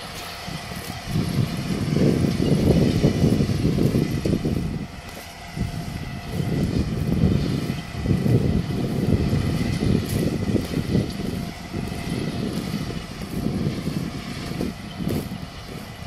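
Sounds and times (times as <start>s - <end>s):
power harrow working soil: 0.0s - 16.0s
tractor engine rumbling: 0.0s - 16.0s.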